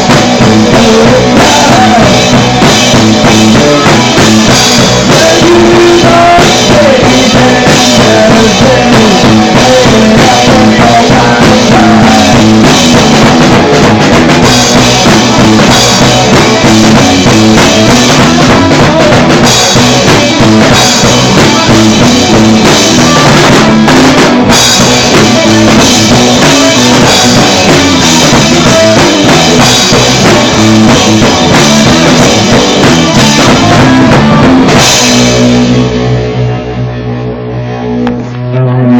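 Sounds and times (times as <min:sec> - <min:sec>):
pounding drum kit: 0:00.0 - 0:36.6
bass guitar: 0:00.0 - 0:38.9
distorted guitars: 0:00.0 - 0:38.9.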